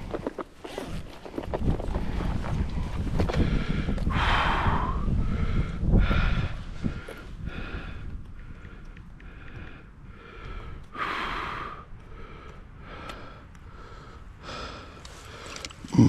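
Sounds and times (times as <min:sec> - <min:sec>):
man breathing heavily: 0:01.9 - 0:16.0.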